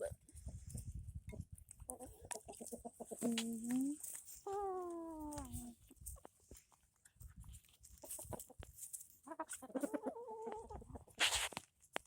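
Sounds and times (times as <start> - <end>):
chickens clucking: 0.0 - 11.3.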